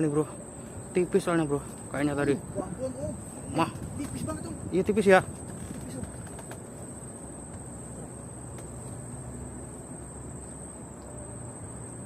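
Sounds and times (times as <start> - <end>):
insects droning: 0.0 - 12.0
low wind rumble: 0.0 - 12.0.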